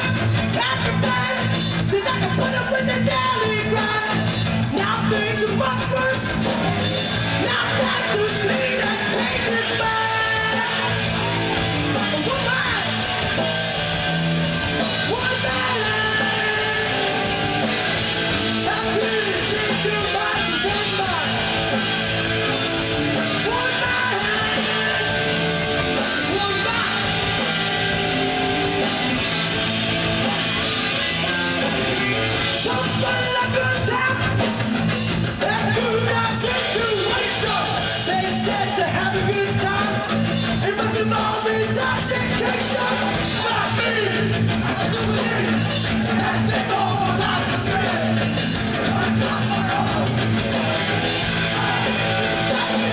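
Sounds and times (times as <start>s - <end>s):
singer shouting into microphone: 0.0s - 6.5s, 7.4s - 13.3s, 14.9s - 22.4s, 23.1s - 29.5s, 32.6s - 34.4s, 35.4s - 50.2s
electric guitar: 0.0s - 52.9s
punk rock band playing live: 0.0s - 52.9s.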